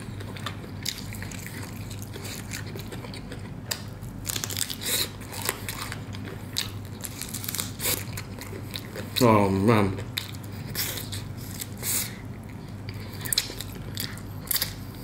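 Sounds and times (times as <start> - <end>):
chewing crunches: 0.0 - 15.0
steady low hum: 0.0 - 15.0.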